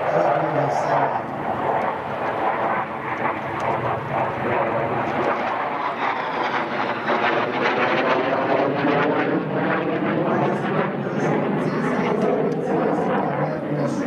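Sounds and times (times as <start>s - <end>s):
jet engines rumbling with turbine whine: 0.0s - 14.0s.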